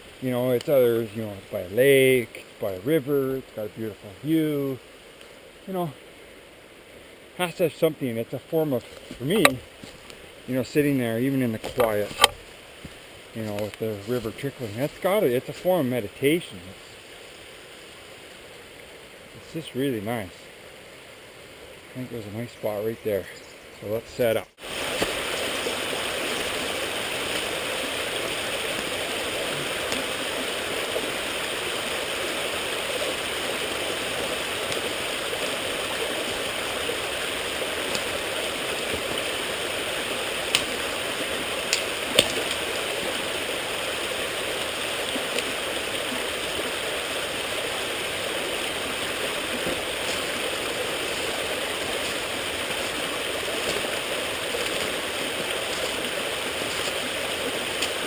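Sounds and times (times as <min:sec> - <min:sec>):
creek flowing: 0:00.0 - 0:58.0.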